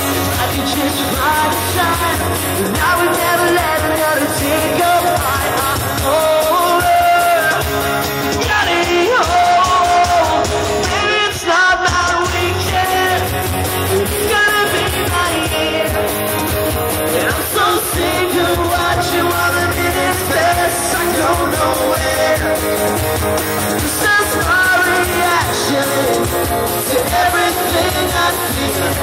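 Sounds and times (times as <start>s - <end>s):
live pop-punk band playing: 0.0s - 29.0s
man singing into a microphone: 0.0s - 29.0s.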